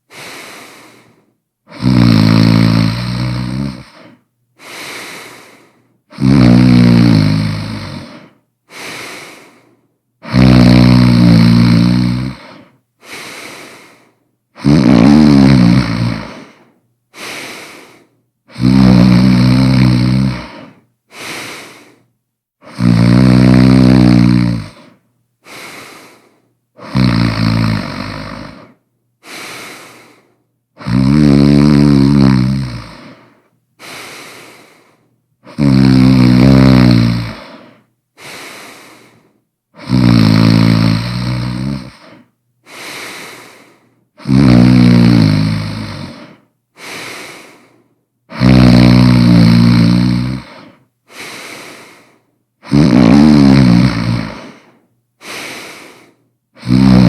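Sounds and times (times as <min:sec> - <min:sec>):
person snoring loudly: 0:00.1 - 0:09.6, 0:10.2 - 0:14.0, 0:14.6 - 0:16.6, 0:17.2 - 0:22.0, 0:22.6 - 0:30.2, 0:30.8 - 0:57.0.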